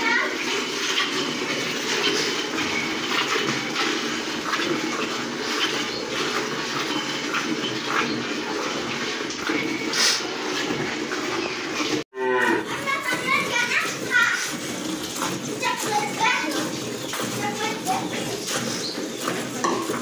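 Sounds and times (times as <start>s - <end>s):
cowshed background noise: 0.0s - 20.0s
milk squirting into a bucket: 0.2s - 12.0s, 12.7s - 20.0s.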